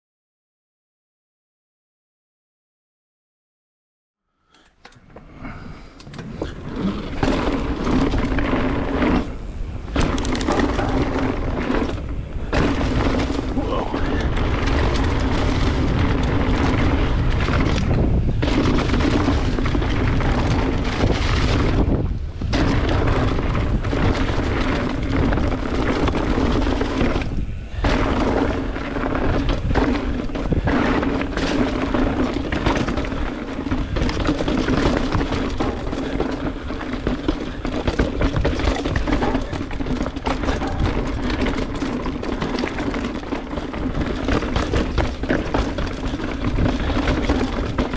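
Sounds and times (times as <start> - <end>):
bike tyres rumbling on dirt: 5.0 - 47.9
wind buffeting microphone: 5.3 - 47.9.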